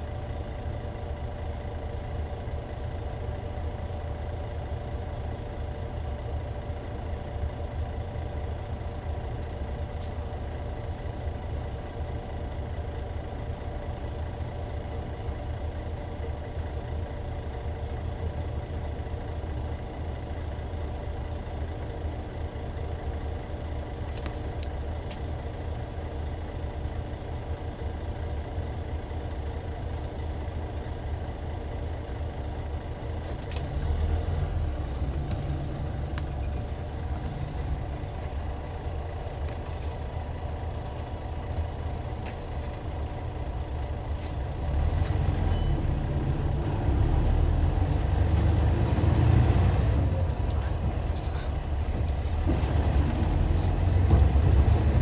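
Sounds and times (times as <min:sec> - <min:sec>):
diesel coach engine running: 0:00.0 - 0:55.0.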